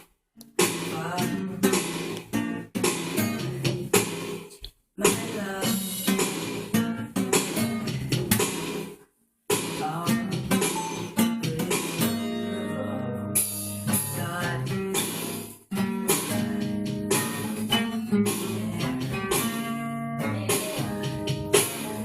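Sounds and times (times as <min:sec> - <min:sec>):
guitar music: 0:00.4 - 0:22.0.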